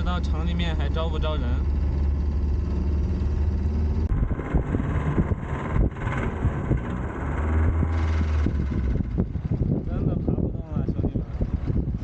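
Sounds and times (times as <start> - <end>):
engine knocking: 0.0 - 10.2
van engine labouring: 0.0 - 12.0.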